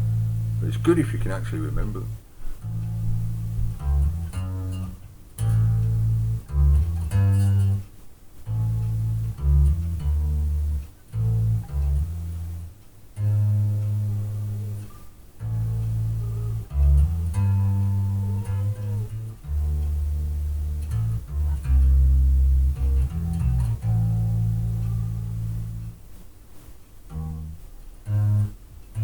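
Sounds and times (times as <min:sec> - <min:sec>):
electric bass guitar line: 0:00.0 - 0:26.1, 0:27.1 - 0:29.0.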